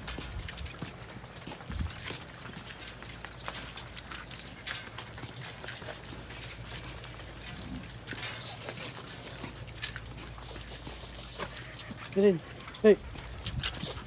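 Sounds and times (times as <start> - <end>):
cow hooves clopping on yard: 0.0 - 14.0.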